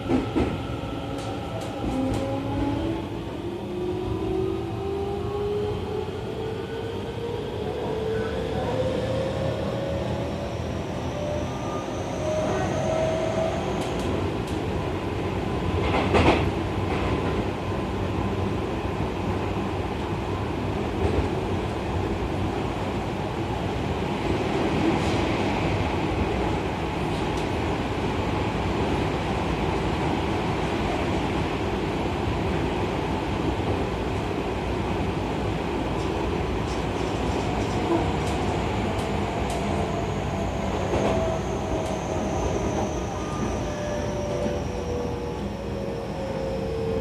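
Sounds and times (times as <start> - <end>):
train rolling noise: 0.0 - 47.0.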